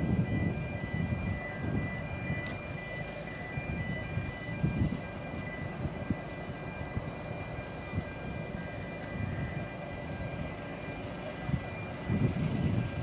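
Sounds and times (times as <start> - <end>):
crossing alarm tones: 0.0 - 13.0
train carriages rumbling: 0.0 - 13.0.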